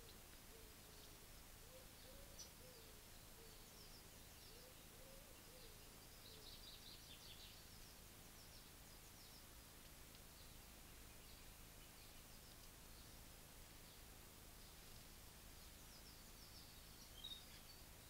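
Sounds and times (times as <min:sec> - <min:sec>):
sparrows chirping: 0:00.0 - 0:18.0.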